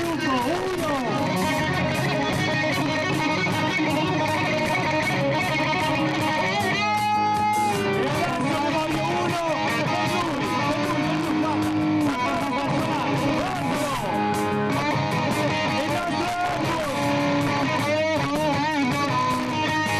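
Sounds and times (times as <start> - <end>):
electric guitar bending notes: 0.0 - 19.9
live band playing: 0.0 - 19.9.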